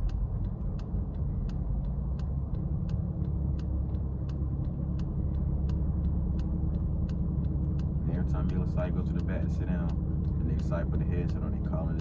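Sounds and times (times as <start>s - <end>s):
car engine idling: 0.0s - 12.0s
light ticking: 0.0s - 12.0s.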